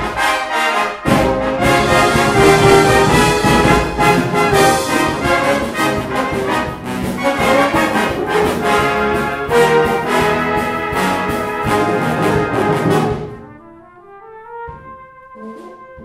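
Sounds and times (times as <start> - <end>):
brass band playing loudly: 0.0 - 16.0.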